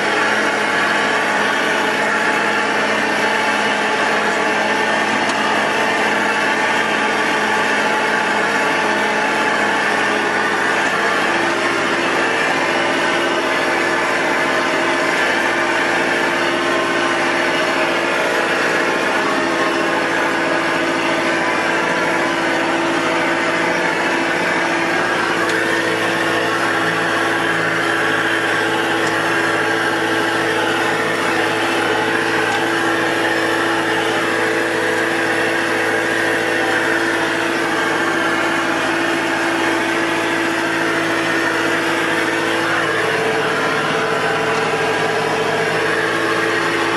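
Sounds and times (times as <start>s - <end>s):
loader engine droning: 0.0s - 46.9s.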